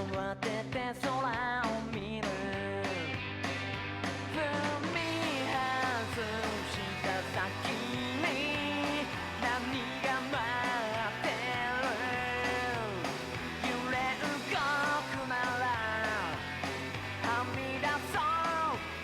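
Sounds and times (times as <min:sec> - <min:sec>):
pop-rock song with singing: 0:00.0 - 0:19.0.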